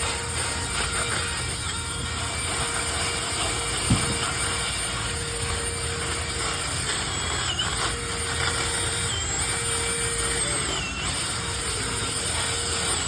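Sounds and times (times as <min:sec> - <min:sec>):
power tool whining: 0:00.0 - 0:13.0.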